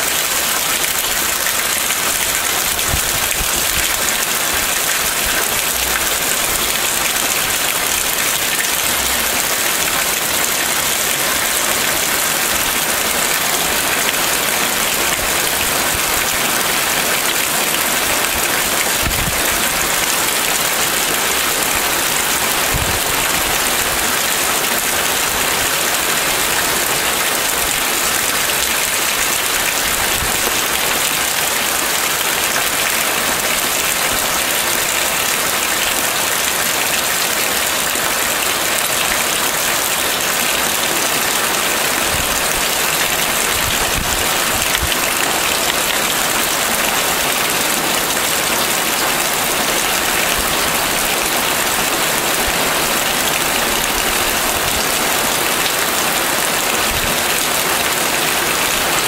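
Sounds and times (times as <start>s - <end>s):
rain falling on road: 0.0s - 59.0s.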